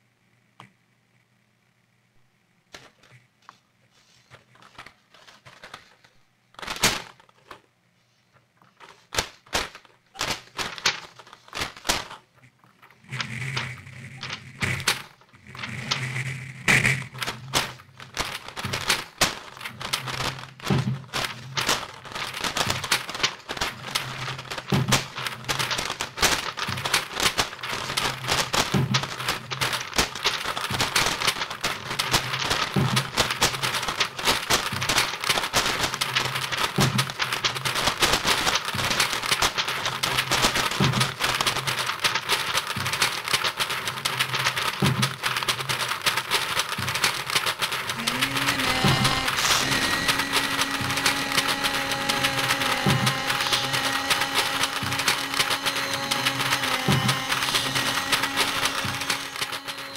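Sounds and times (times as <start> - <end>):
crackle of clicks: 0.3 - 1.4, 8.3 - 59.9.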